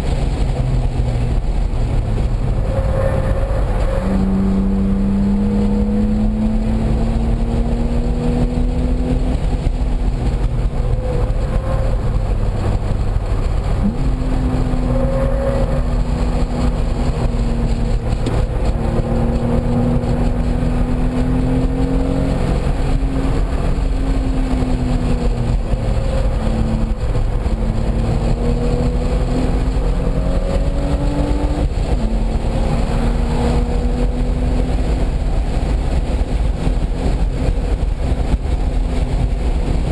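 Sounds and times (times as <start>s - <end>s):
race car engine revving: 0.0s - 39.9s
wind and road noise rumble: 0.0s - 39.9s.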